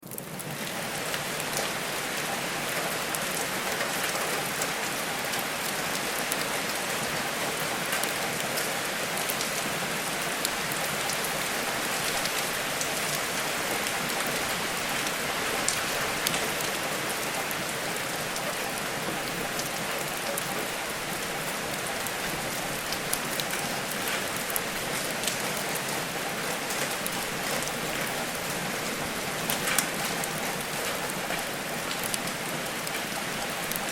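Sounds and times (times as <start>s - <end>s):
steady rain on a surface: 0.0s - 33.9s.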